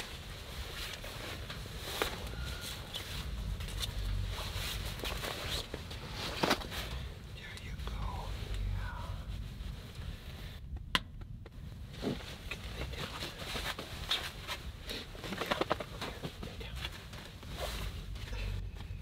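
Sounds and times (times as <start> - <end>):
clothing and bedding rustling: 0.0 - 10.6, 11.5 - 19.0
low steady rumble: 0.0 - 19.0.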